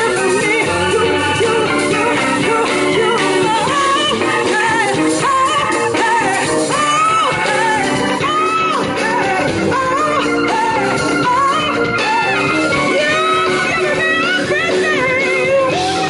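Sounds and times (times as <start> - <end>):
drums: 0.0 - 16.0
electric guitar: 0.0 - 16.0
woman singing into a microphone: 0.0 - 16.0.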